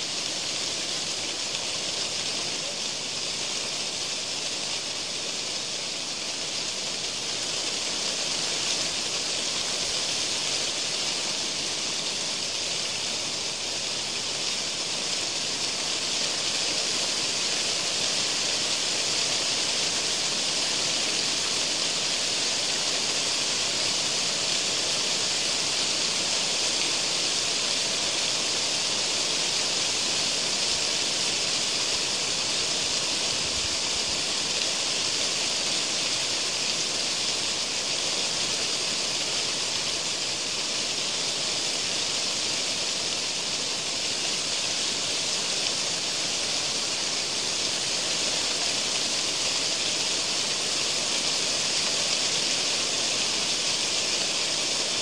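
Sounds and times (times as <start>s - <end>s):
wind rustling leaves: 0.0s - 55.0s.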